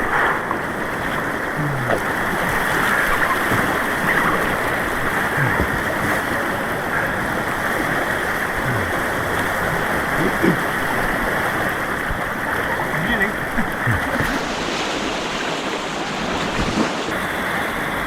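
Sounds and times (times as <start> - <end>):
white water rushing: 0.0 - 18.0.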